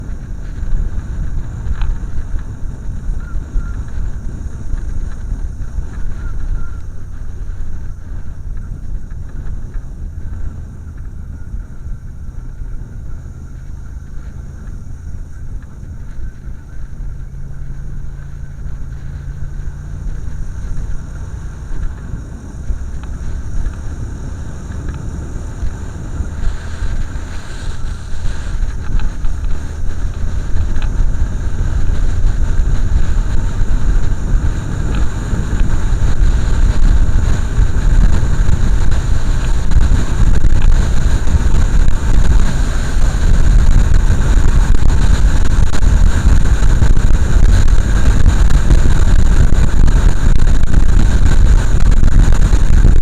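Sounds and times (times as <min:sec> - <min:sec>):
motorcycle engine running: 0:00.0 - 0:53.0
wind rumble on microphone: 0:00.0 - 0:53.0.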